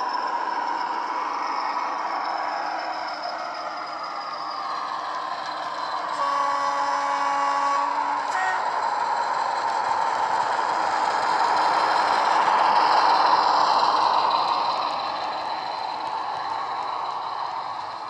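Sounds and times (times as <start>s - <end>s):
model locomotive diesel engine sound: 0.0s - 18.0s
wheels rattling on track: 0.0s - 18.0s.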